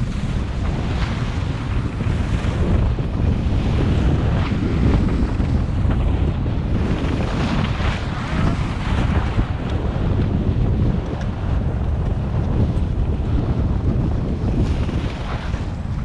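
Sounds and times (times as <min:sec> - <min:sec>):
skis carving over snow: 0:00.0 - 0:16.0
wind buffeting microphone: 0:00.0 - 0:16.0.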